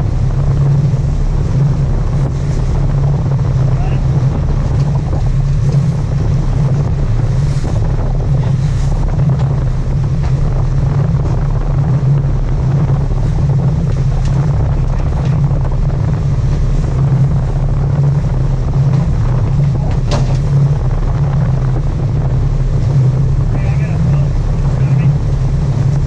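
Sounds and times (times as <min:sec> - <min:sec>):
boat engine droning: 0:00.0 - 0:26.0
wind buffeting microphone: 0:00.0 - 0:26.0.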